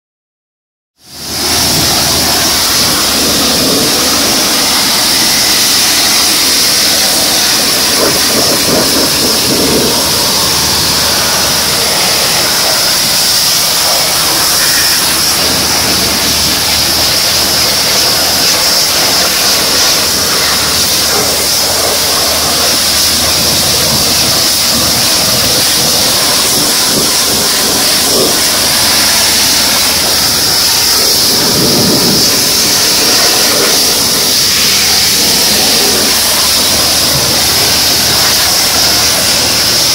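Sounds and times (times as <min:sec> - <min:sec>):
pressure washer water jet hissing: 0:01.0 - 0:39.9
pump hum: 0:01.0 - 0:39.9.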